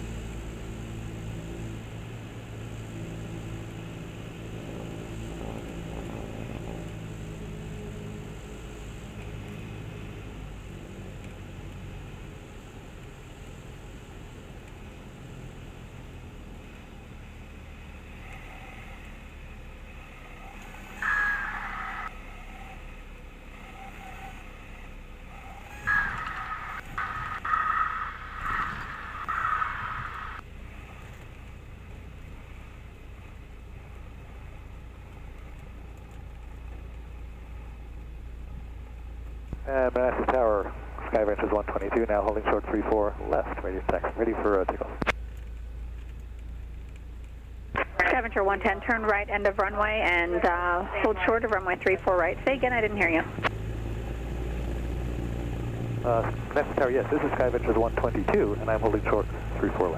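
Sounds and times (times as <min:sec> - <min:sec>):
light aircraft engine running: 0:00.0 - 0:59.9.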